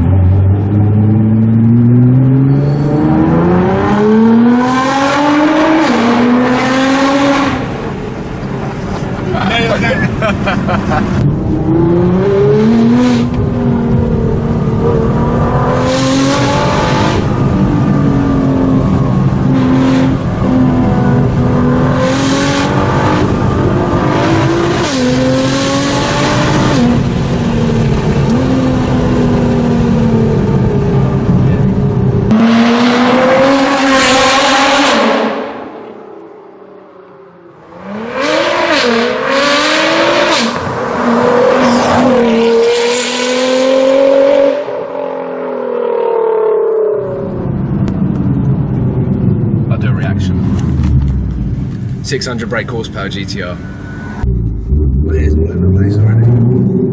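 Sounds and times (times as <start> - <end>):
car engine revving: 0.0 - 36.1, 37.4 - 56.9.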